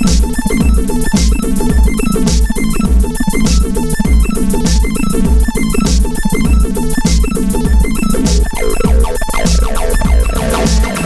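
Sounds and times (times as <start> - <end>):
synthesizer sequenced notes: 0.0 - 11.0.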